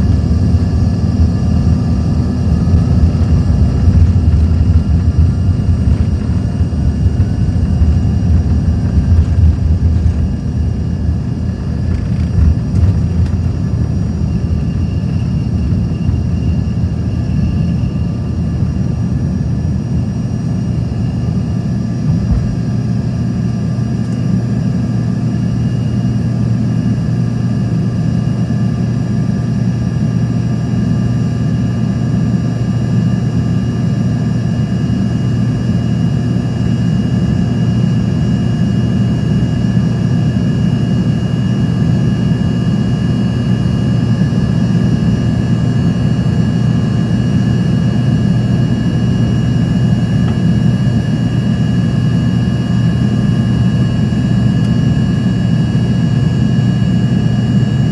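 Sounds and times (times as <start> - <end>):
jet engines heard from cabin: 0.0 - 57.9.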